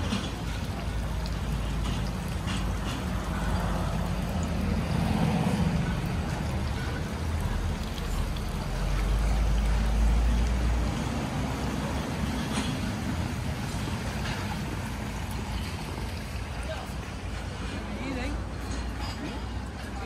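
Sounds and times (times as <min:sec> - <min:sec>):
steady noisy street wash: 0:00.0 - 0:20.0.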